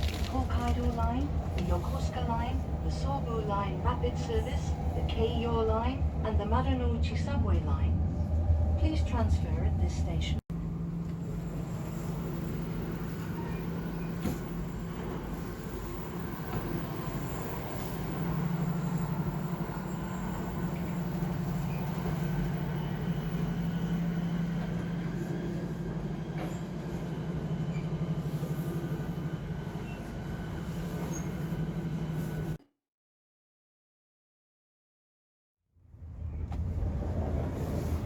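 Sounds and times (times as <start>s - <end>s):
faint train whine: 0.0s - 32.6s
train rumble from inside: 0.0s - 32.6s, 35.9s - 38.0s.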